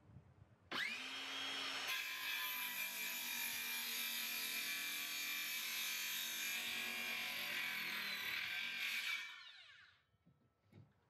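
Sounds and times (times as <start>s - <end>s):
circular saw cutting wood: 0.7s - 10.0s.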